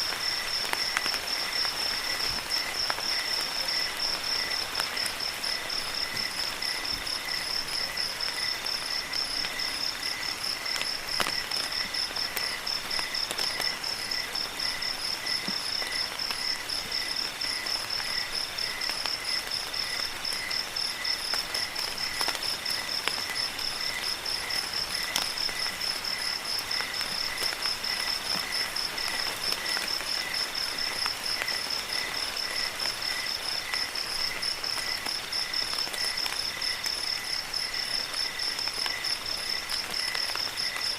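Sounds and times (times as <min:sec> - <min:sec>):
crickets chirping: 0:00.0 - 0:40.9
rain water hiss: 0:00.0 - 0:40.9.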